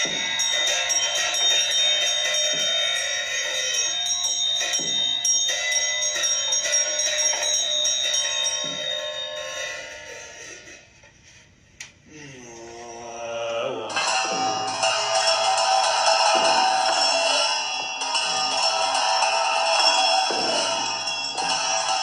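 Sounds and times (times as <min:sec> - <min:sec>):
handbell ringing: 0:00.0 - 0:10.4, 0:14.0 - 0:22.0.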